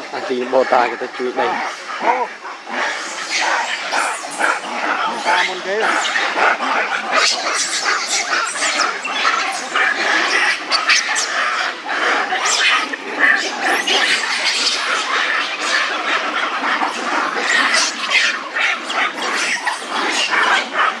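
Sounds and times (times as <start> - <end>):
macaques screeching and barking: 0.0 - 21.0.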